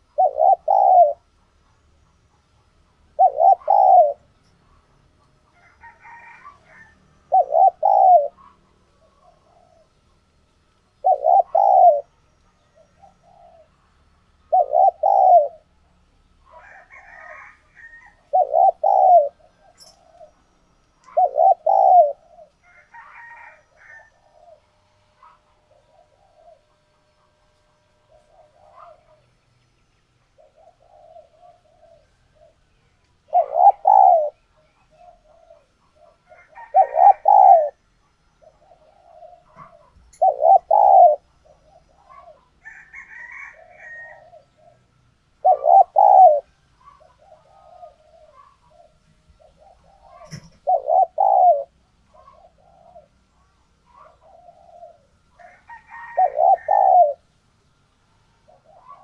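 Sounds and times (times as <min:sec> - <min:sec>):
dove cooing: 0:00.0 - 0:29.4, 0:30.2 - 0:57.4, 0:58.3 - 0:59.0.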